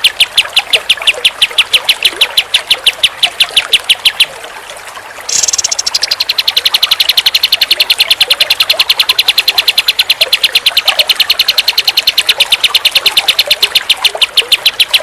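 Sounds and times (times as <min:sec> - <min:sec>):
bird chirping fast: 0:00.0 - 0:04.4, 0:05.2 - 0:15.0.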